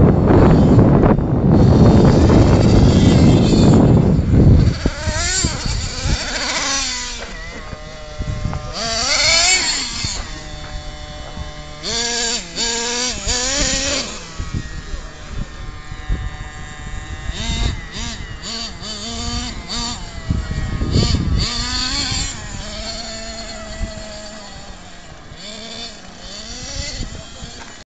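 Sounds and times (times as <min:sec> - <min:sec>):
nitro engine revving: 0:00.0 - 0:27.8
wind rumbling on microphone: 0:00.0 - 0:27.8.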